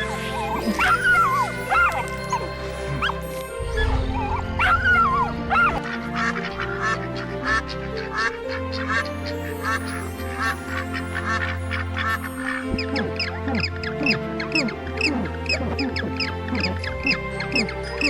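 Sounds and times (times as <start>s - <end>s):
animal calls: 0.0s - 18.0s
background music: 0.0s - 18.0s.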